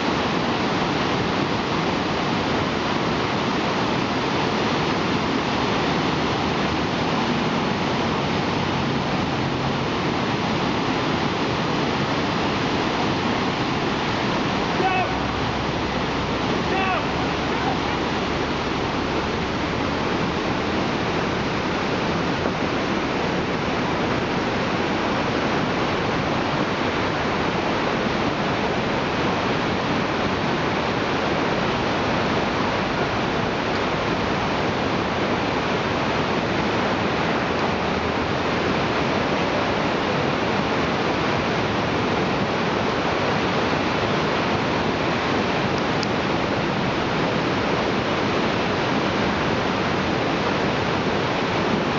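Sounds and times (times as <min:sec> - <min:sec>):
whitewater rapids rushing: 0:00.0 - 0:51.9.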